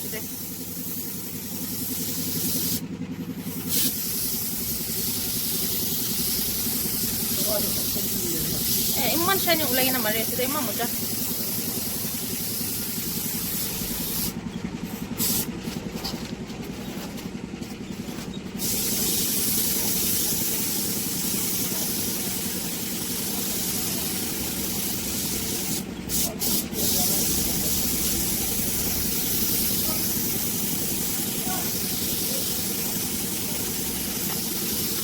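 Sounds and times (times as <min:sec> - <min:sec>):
paint spray gun hissing: 0:00.0 - 0:15.9, 0:17.9 - 0:35.0.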